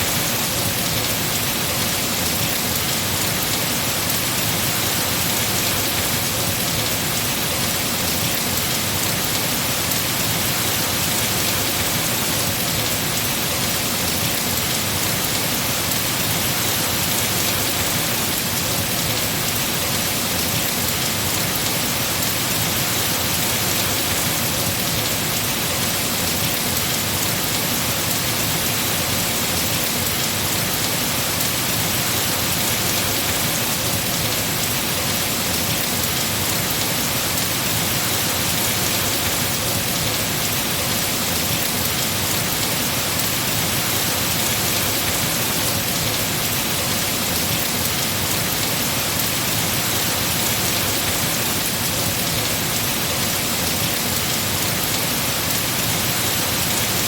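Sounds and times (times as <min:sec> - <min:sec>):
heavy rain falling on trees: 0:00.0 - 0:57.0.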